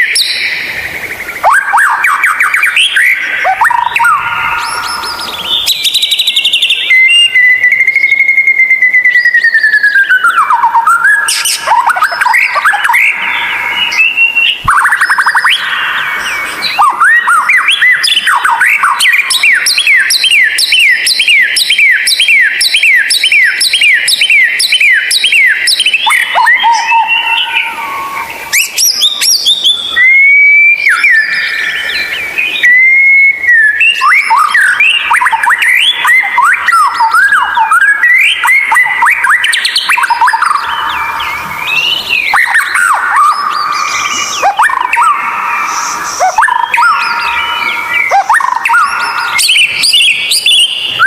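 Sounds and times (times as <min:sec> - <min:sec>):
bird singing whistled notes: 0:00.0 - 0:51.0.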